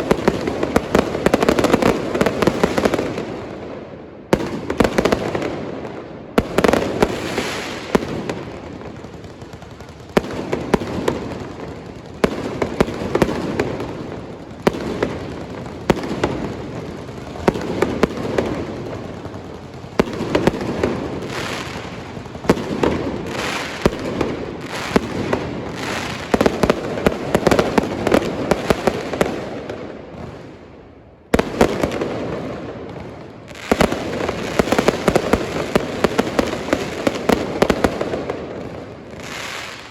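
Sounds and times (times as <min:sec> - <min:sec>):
firework crackling: 0:06.4 - 0:30.6, 0:31.4 - 0:39.9.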